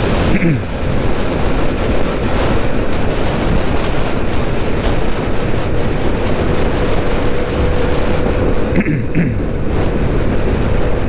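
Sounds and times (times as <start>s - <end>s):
motorcycle engine hum: 0.0s - 11.0s
wind rush over microphone: 0.0s - 11.0s.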